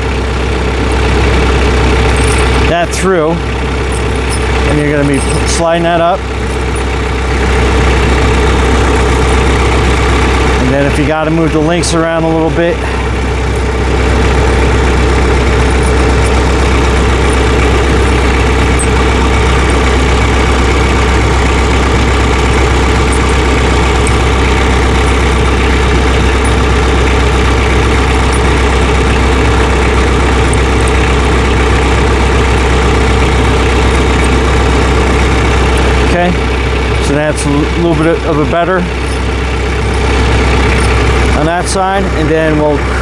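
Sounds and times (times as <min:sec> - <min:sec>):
tractor engine idling: 0:00.0 - 0:43.0.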